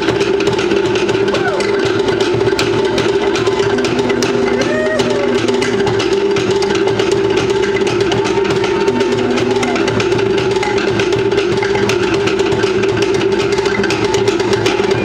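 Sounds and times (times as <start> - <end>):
fast ensemble drumming: 0.0 - 15.0.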